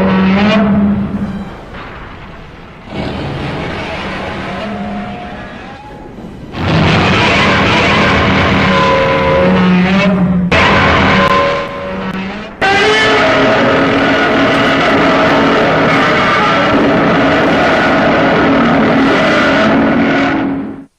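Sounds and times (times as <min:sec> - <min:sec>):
rasping monster roar: 0:02.9 - 0:20.8.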